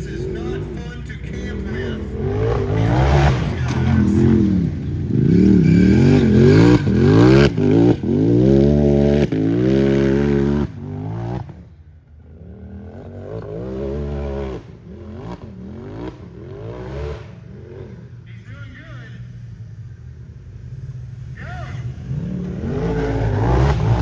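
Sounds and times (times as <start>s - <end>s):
utility vehicle engine revving hard: 0.0s - 24.0s.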